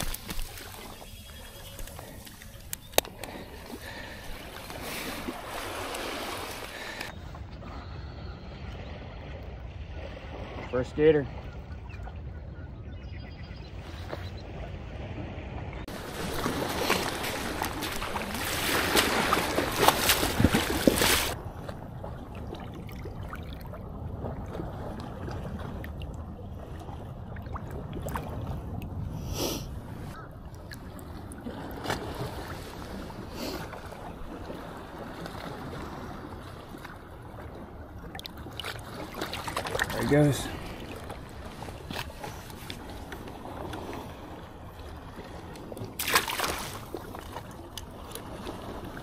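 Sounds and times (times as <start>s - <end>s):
ocean waves breaking on beach: 0.0s - 11.8s, 13.8s - 49.0s.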